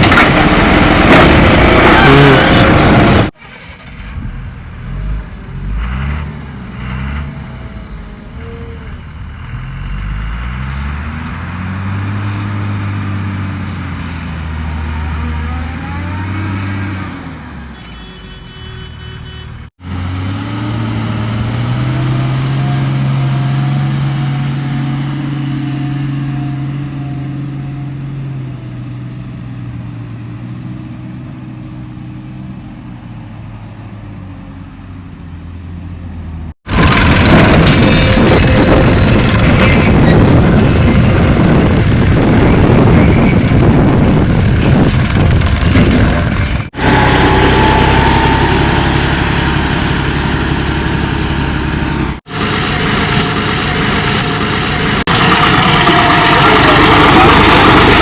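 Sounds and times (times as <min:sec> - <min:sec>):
diesel engines revving: 0:00.0 - 0:18.0, 0:18.8 - 0:58.0.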